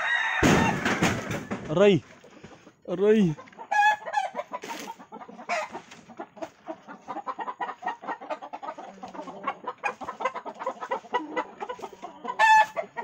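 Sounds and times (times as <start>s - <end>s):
roosters clucking: 0.0s - 13.0s.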